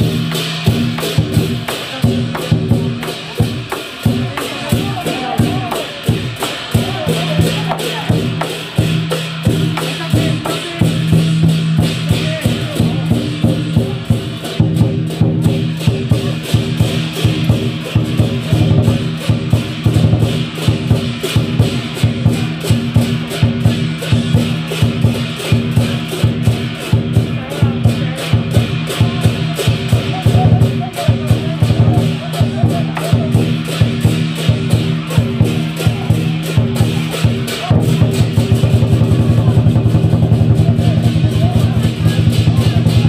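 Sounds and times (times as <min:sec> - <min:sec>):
big drum beating: 0:00.0 - 0:43.0
gong: 0:00.0 - 0:43.0
hand cymbals: 0:00.0 - 0:43.0.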